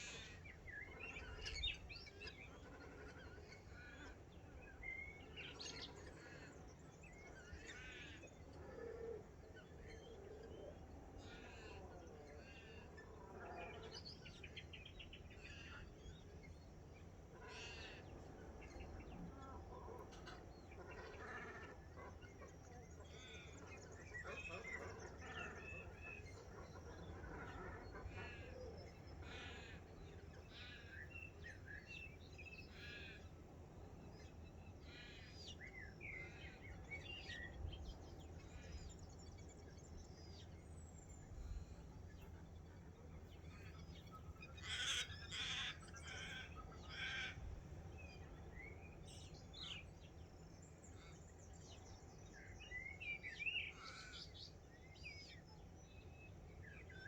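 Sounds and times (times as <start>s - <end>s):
birds calling and chirping: 0.0s - 13.2s, 13.8s - 57.0s.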